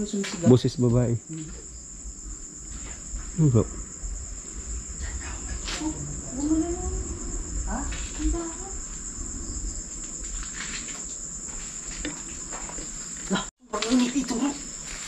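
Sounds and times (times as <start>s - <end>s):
insects chirping trill: 0.0s - 15.0s.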